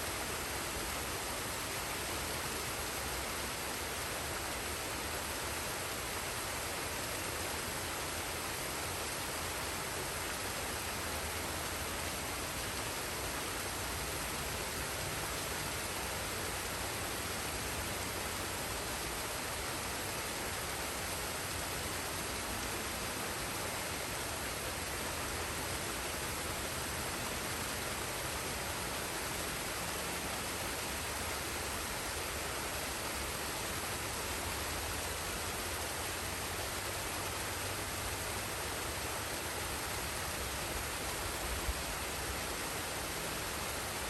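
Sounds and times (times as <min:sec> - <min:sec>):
waterfall and stream rushing: 0:00.0 - 0:44.0.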